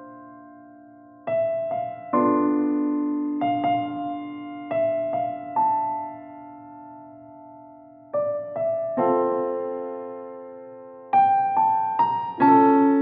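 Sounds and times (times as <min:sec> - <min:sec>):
slow soft piano music: 0:00.0 - 0:13.0.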